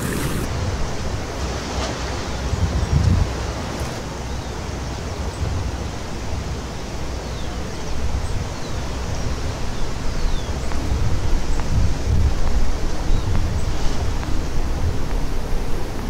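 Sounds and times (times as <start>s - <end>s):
wind buffeting microphone: 0.0s - 6.6s, 7.5s - 16.0s
river water rushing: 0.0s - 16.0s.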